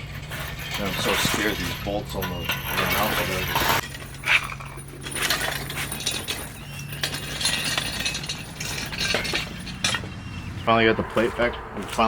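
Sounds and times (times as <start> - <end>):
metal tools clinking and scraping: 0.0 - 12.0.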